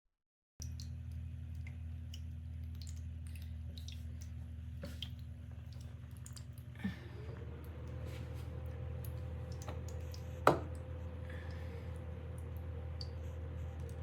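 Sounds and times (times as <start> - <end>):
fountain pump humming: 0.6 - 14.0
water trickling and dripping: 0.6 - 14.0.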